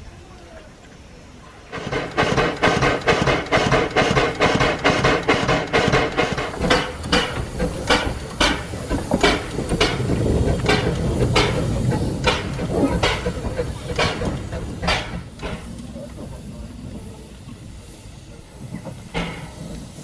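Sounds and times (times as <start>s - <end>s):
steam locomotive exhaust beats: 0.3s - 20.0s.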